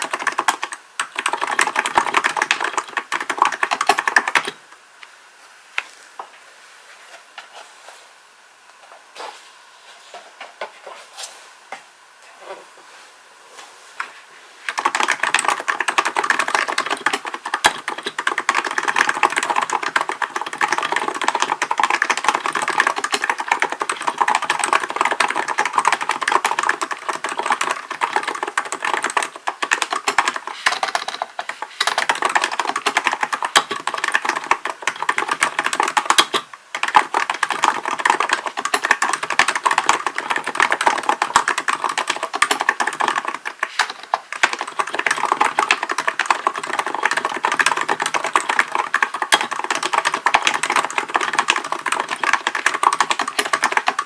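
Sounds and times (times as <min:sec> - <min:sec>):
keyboard typing: 0:00.0 - 0:04.6, 0:14.7 - 0:54.0.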